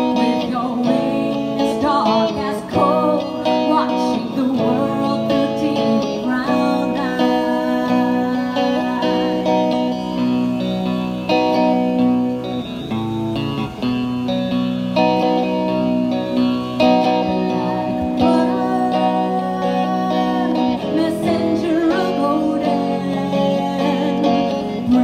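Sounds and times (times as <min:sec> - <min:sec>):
plucked guitar melody: 0:00.0 - 0:25.0.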